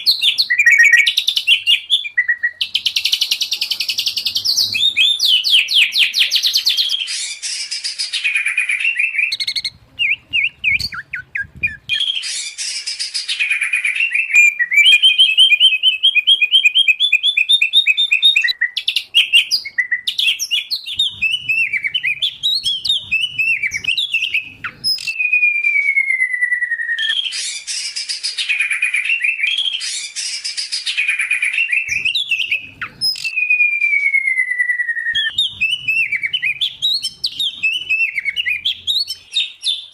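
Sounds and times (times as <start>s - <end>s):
long falling bird whistle: 0.0s - 3.2s, 4.2s - 39.9s
songbirds singing trills: 0.0s - 39.9s.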